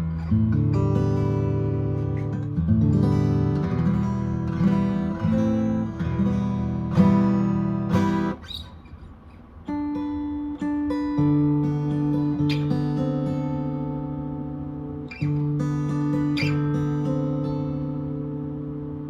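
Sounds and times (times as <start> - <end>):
fingerstyle acoustic guitar: 0.0 - 19.0.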